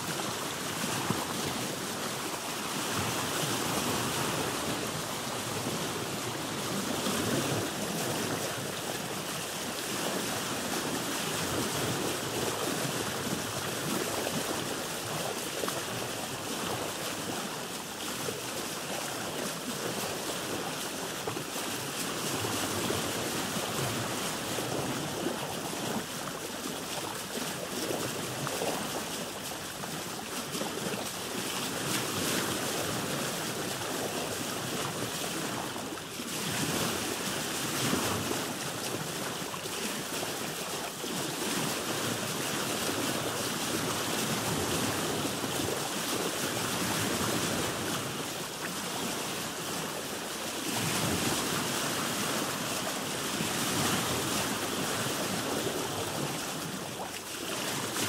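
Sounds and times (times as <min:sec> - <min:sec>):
sea water lapping against a boat: 0:00.0 - 0:58.0.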